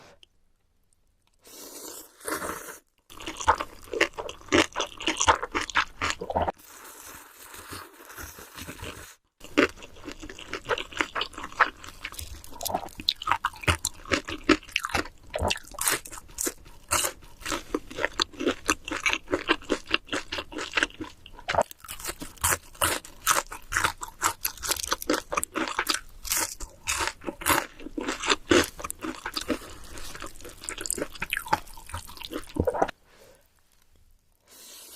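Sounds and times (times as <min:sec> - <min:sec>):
chewing noodles close up: 0:01.3 - 0:32.9.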